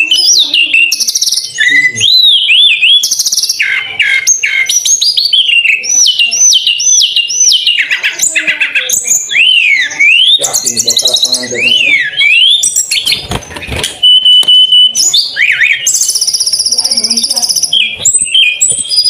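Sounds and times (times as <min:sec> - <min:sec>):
bird singing whistles and trills: 0:00.0 - 0:19.0.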